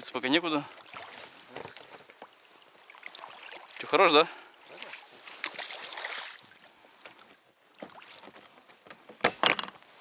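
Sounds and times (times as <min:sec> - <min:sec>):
water splashing around a boat: 0:00.0 - 0:10.0.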